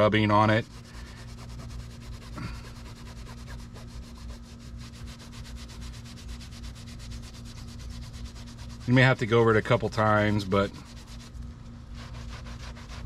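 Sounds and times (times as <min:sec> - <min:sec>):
faint steady hum: 0:00.0 - 0:13.0
towel scrubbing fabric: 0:00.0 - 0:13.0.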